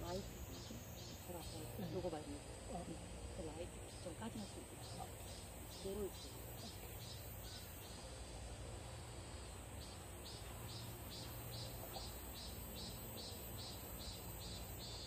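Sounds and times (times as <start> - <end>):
high-pitched insect drone: 0.0 - 8.3, 8.9 - 15.0
insects chirping: 0.0 - 15.0.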